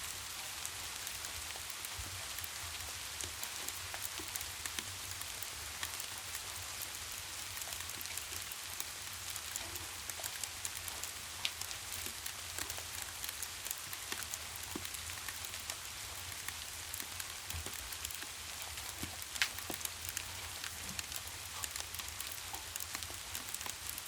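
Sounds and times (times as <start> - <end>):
rain hiss: 0.0 - 24.0
wood fire crackling: 0.0 - 24.0.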